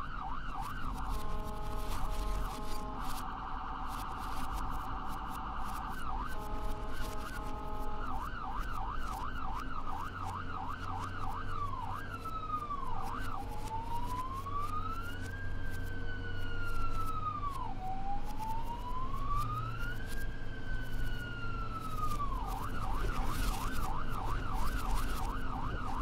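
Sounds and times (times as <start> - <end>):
ambulance siren: 0.0 - 26.0
low steady hum: 0.0 - 26.0.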